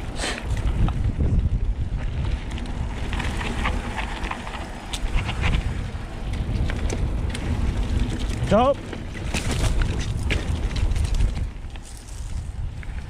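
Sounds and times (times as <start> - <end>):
bike clicks and rattles: 0.0 - 13.0
wind rumble on microphone: 0.0 - 13.0.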